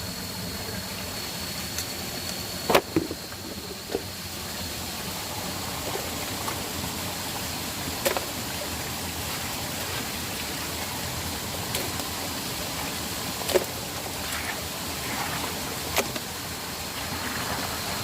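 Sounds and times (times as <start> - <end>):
water rushing over waterfall: 3.2 - 18.0.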